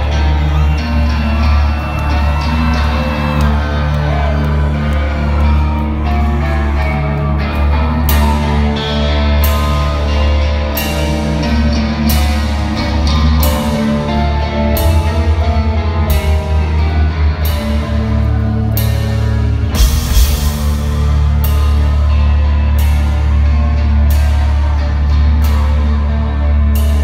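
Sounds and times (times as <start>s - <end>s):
heavy rock band playing: 0.0s - 27.0s.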